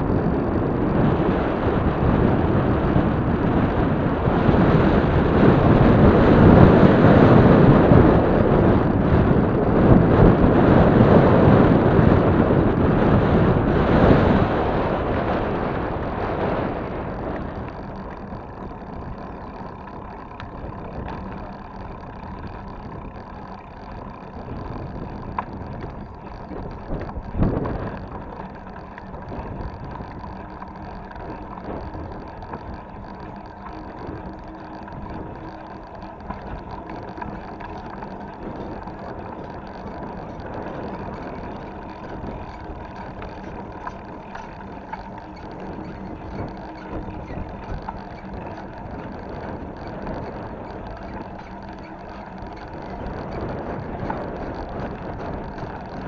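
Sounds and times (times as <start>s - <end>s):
bike tyre noise on concrete: 0.0s - 56.0s
wind on microphone: 0.0s - 56.0s.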